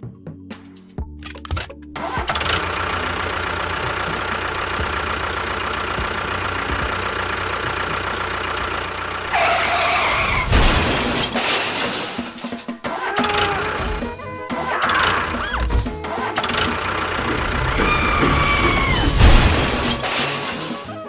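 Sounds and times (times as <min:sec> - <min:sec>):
engine running: 0:01.3 - 0:21.0.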